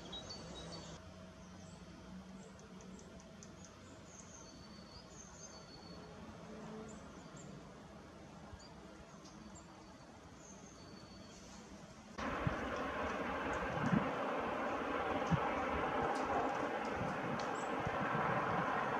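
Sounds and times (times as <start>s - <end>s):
low background noise: 0.0s - 18.9s.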